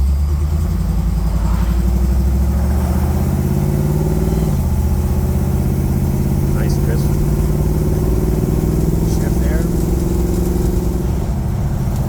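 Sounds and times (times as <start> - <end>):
engine accelerating: 0.0 - 12.0.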